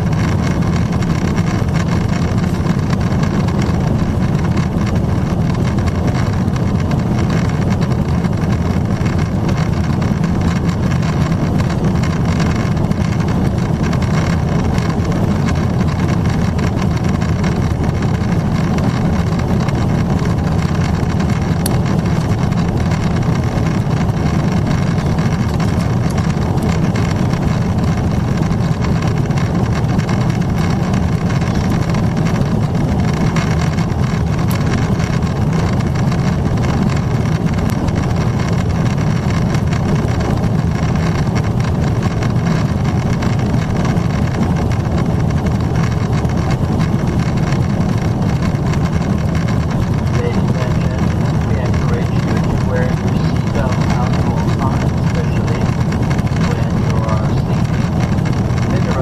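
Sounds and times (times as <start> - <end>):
airplane cabin drone: 0.0 - 59.0
jet engine low rumble: 0.0 - 59.0
rushing airflow: 0.0 - 59.0.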